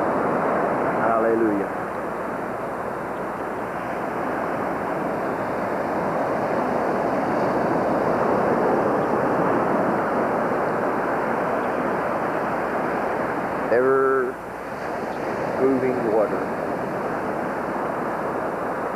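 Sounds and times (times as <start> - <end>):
ocean surf on sandy beach: 0.0 - 18.9.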